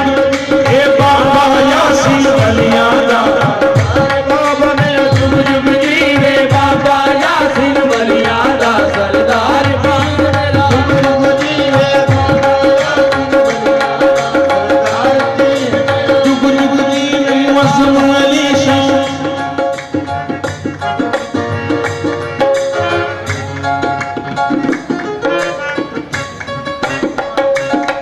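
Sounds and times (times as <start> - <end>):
harmonium tones: 0.0 - 28.0
tabla drumming: 0.0 - 28.0.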